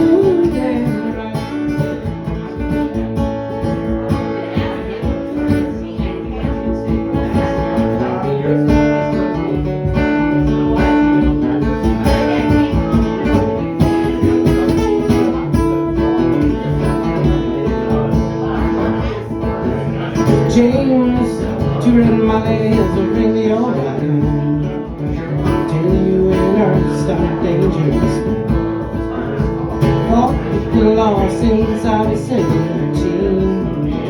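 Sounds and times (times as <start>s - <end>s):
acoustic guitar strumming and picking: 0.0s - 34.0s.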